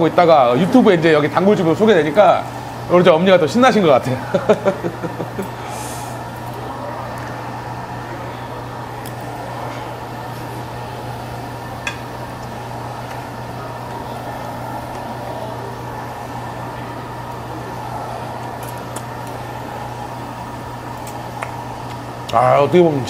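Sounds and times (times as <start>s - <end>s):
ventilation fan humming: 0.0s - 23.0s.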